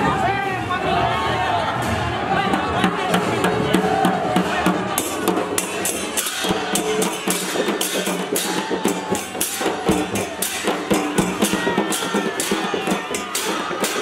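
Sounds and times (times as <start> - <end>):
music with percussion beat: 1.8 - 14.0.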